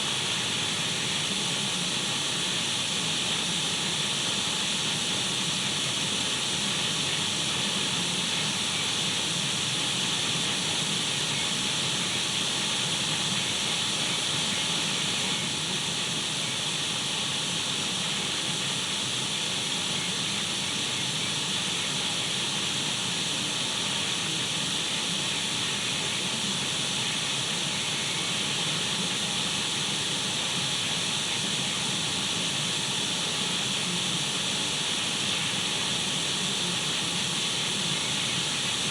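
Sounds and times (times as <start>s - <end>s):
radio static hiss: 6.6s - 17.3s, 18.0s - 38.9s.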